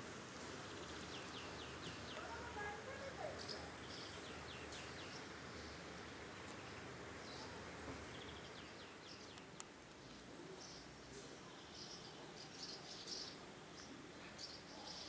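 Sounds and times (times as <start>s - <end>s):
outdoor background noise: 0.0s - 15.0s
small songbirds chirping: 0.1s - 15.0s.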